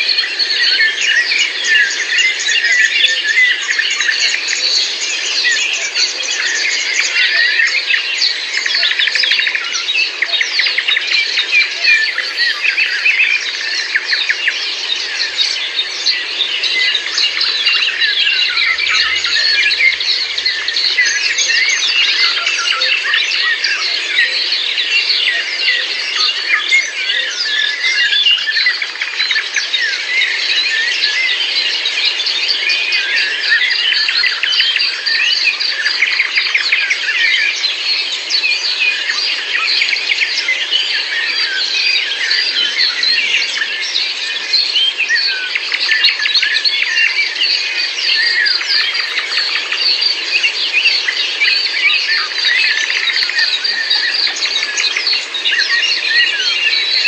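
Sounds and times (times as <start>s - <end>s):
birds singing in chorus: 0.0s - 57.0s.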